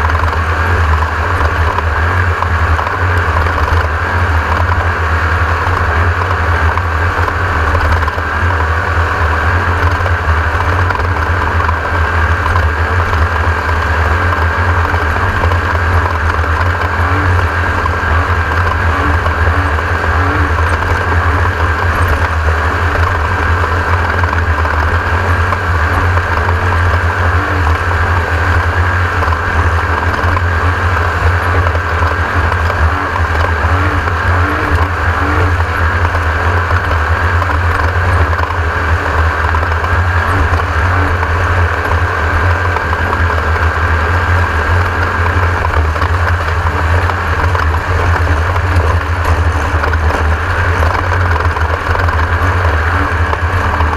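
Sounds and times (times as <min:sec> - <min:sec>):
race car engine droning: 0:00.0 - 0:53.9.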